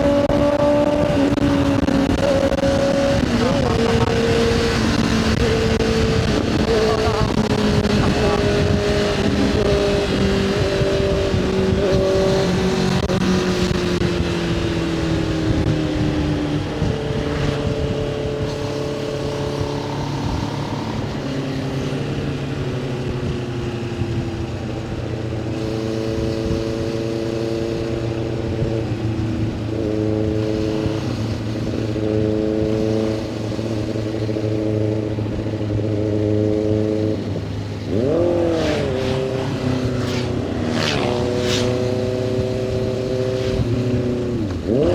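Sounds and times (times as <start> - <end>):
motorcycle engine changing gear: 0.0 - 44.9
wind rush: 0.0 - 44.9.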